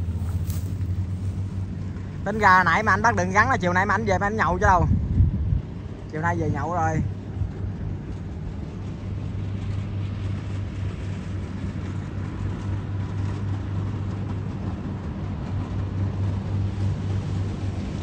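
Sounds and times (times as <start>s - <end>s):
combine harvester engines humming: 0.0s - 18.0s.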